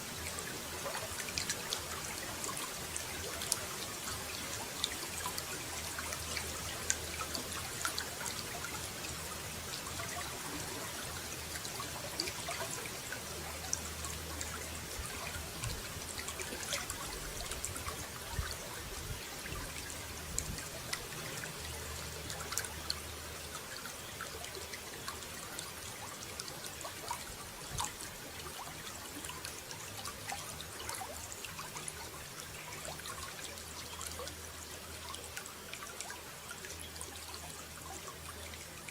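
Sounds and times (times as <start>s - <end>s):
water running and trickling: 0.0s - 38.9s
small splashes and drips: 0.1s - 38.9s.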